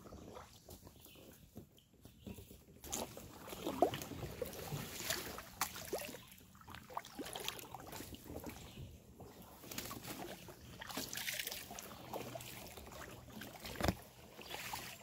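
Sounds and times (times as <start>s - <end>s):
paddle splashes and drips: 2.8s - 15.0s.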